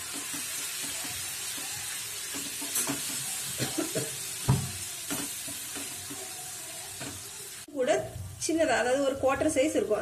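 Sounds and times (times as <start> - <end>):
sauce sizzling in oil: 0.0 - 10.0.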